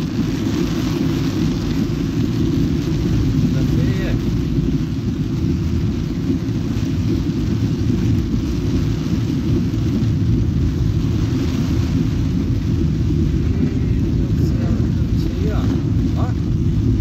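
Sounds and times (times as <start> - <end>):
heavy rain on a car: 0.0 - 17.0
road noise: 0.0 - 17.0.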